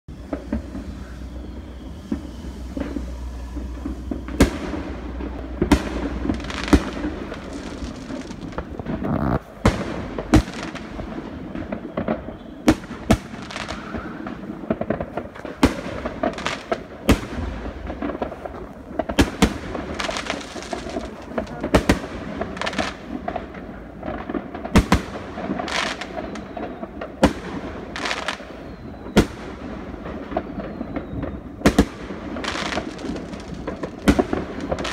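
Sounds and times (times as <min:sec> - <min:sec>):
fireworks exploding: 0:00.1 - 0:34.9
steady background noise: 0:00.1 - 0:34.9.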